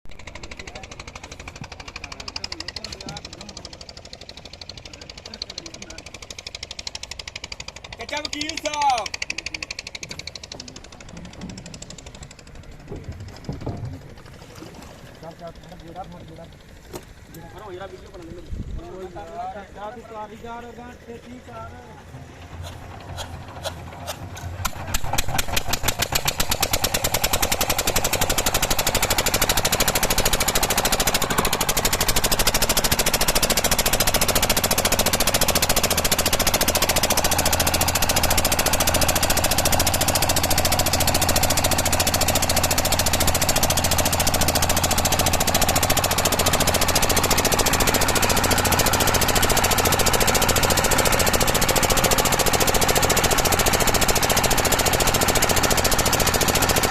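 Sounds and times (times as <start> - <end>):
boat engine knocking: 0.1 - 56.9.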